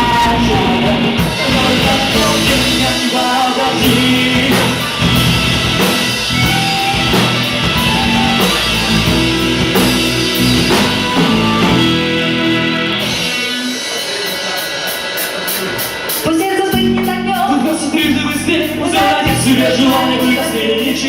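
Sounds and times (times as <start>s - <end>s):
electric guitar: 0.0s - 21.0s
rock band instrumental: 0.0s - 21.0s.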